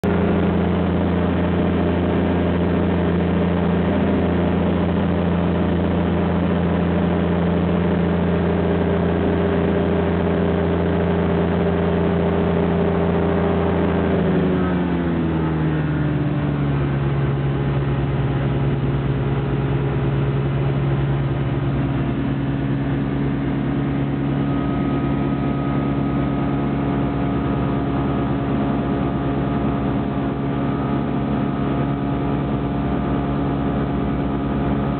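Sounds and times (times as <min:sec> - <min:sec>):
light aircraft piston engine: 0:00.0 - 0:34.9.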